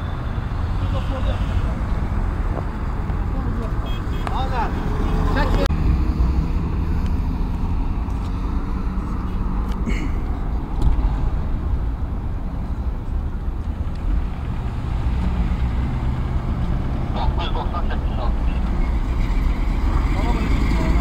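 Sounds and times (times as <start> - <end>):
engines rumbling: 0.0 - 21.0
road traffic: 0.0 - 21.0.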